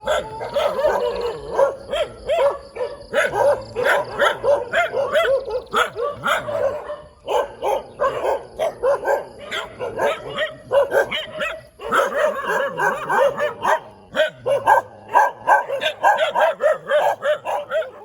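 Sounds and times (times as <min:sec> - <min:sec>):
dog barking: 0:00.0 - 0:18.0.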